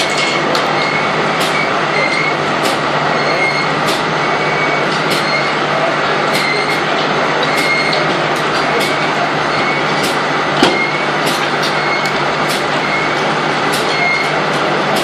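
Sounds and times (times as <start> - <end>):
sawmill mechanical din: 0.0 - 15.0.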